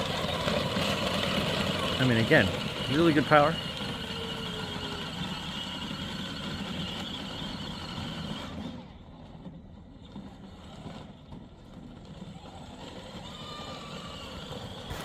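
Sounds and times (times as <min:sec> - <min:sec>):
toy car electric motor whine: 0:00.0 - 0:15.0.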